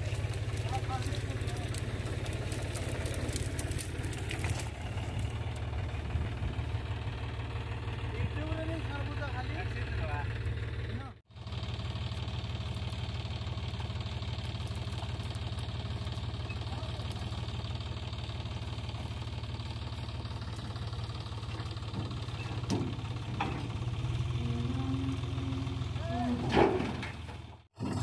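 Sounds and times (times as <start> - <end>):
tractor diesel engine idling: 0.0 - 28.0.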